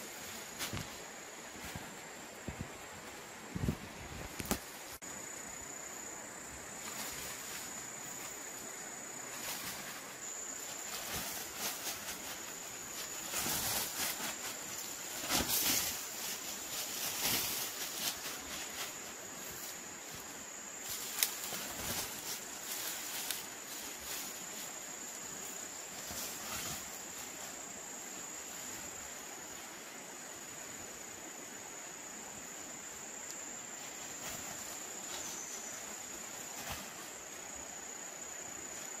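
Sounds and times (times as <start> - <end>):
rustling of dry brush: 0.0 - 5.0, 6.6 - 29.5, 33.7 - 37.6
high-pitched insect trill: 4.7 - 39.0.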